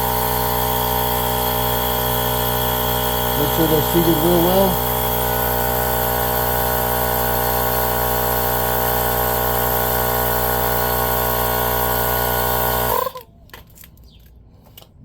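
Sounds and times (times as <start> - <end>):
tire inflator running: 0.0 - 13.3.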